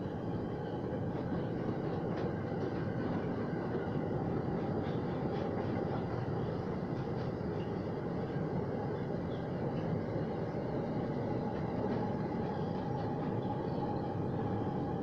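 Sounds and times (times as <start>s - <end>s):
steel wheels rumbling on rails: 0.0s - 15.0s.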